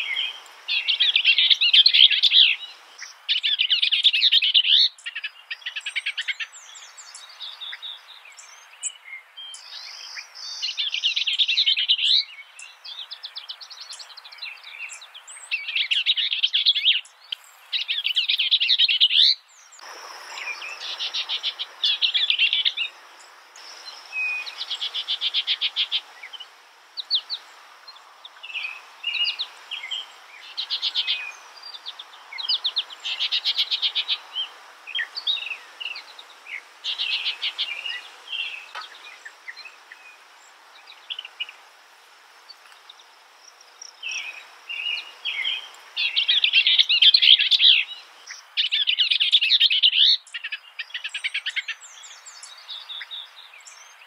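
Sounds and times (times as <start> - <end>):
songbird singing trills: 0.0 - 41.6, 42.4 - 54.0
background hiss: 0.0 - 54.0.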